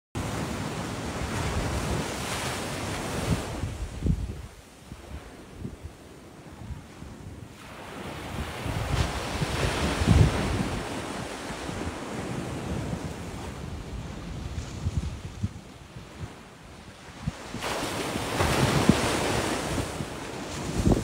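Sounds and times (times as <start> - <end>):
small waves breaking on sand: 0.2 - 21.0
wind rumble on microphone: 2.8 - 7.6, 8.2 - 21.0.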